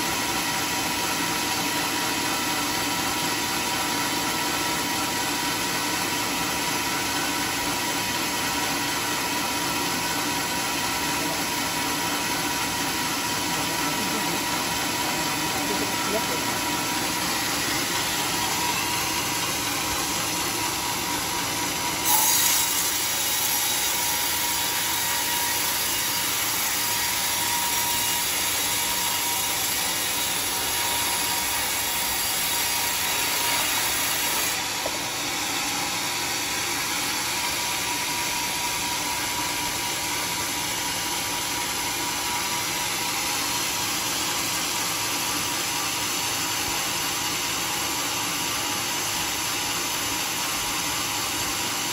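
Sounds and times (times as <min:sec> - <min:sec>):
band saw cutting log: 0:00.0 - 0:51.9.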